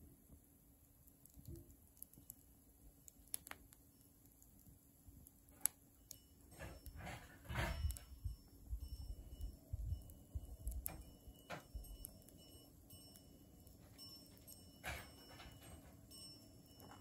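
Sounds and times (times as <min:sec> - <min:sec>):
bonfire embers crackling: 0:00.3 - 0:17.0.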